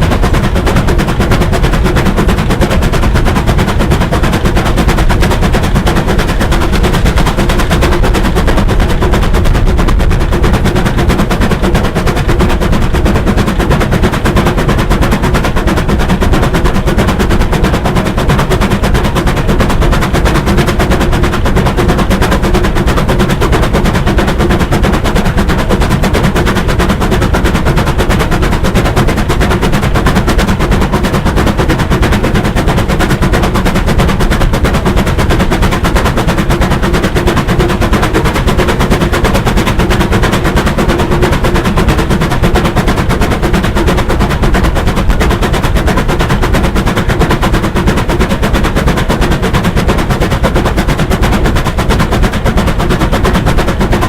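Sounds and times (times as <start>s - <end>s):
steam locomotive exhaust beats: 0.0s - 54.0s.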